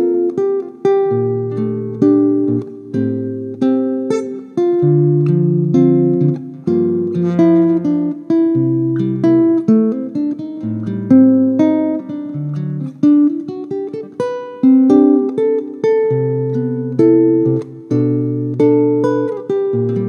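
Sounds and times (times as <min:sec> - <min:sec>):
classical guitar fingerstyle: 0:00.0 - 0:20.0.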